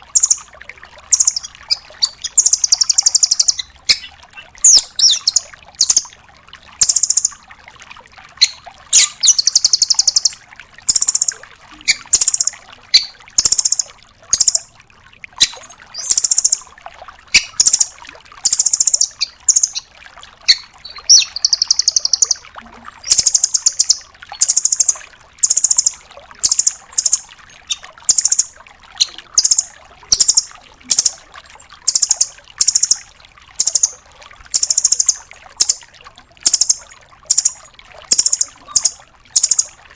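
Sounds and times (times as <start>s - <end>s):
bird calling in rapid trills: 0.1s - 0.5s, 1.1s - 6.1s, 6.8s - 7.4s, 8.4s - 14.7s, 15.4s - 16.7s, 17.3s - 22.4s, 23.0s - 31.2s, 31.8s - 35.8s, 36.4s - 39.8s.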